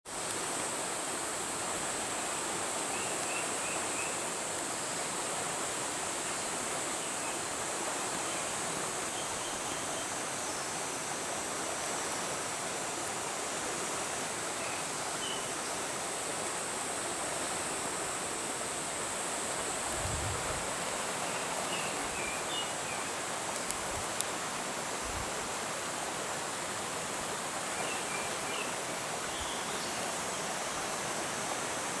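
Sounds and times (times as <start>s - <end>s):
rushing stream water: 0.1s - 32.0s.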